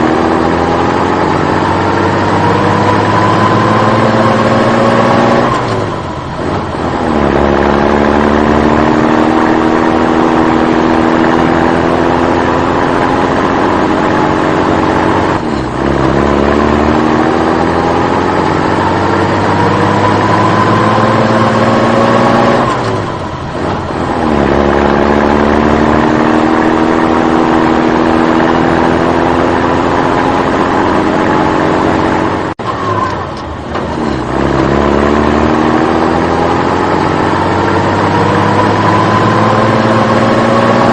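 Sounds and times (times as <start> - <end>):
engine accelerating through gears: 0.0 - 40.9.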